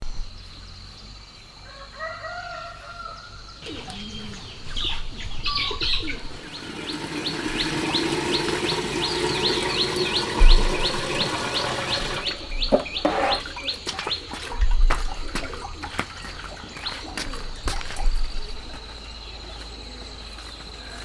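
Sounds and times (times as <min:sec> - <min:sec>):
birds chirping: 0:03.0 - 0:21.0.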